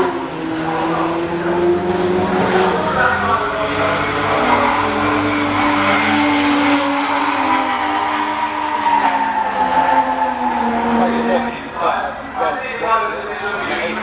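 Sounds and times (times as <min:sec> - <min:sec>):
car engine at high revs: 0:00.0 - 0:11.8
tyres skidding: 0:00.0 - 0:11.9.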